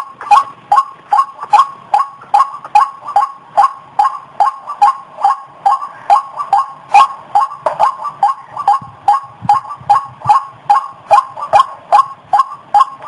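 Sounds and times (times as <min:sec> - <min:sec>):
two-toned bird call: 0:00.0 - 0:13.0.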